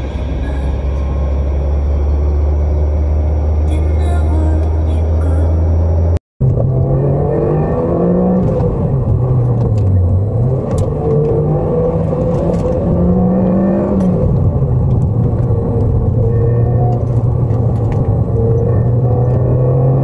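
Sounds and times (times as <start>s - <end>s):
car engine accelerating through gears: 0.0s - 20.0s.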